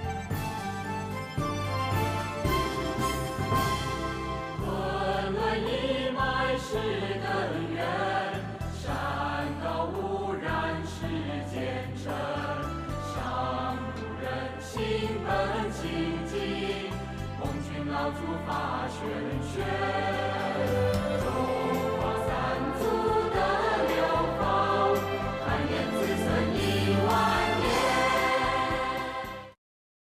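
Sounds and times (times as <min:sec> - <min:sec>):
choir singing: 0:02.4 - 0:29.6.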